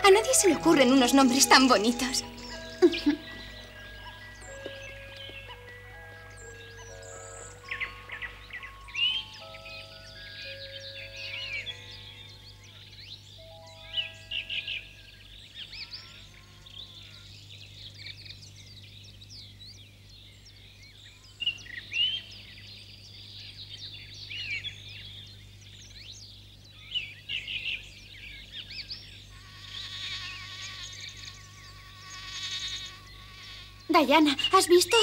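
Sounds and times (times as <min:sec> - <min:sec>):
birds chirping and twittering: 0:00.0 - 0:35.0.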